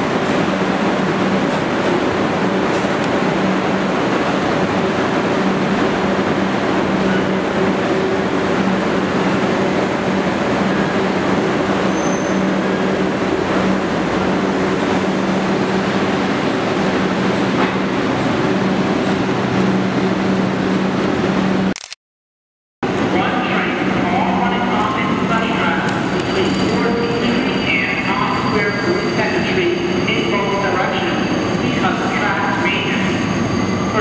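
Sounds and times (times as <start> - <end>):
subway train rumbling on rails: 0.0 - 21.7, 22.8 - 34.0.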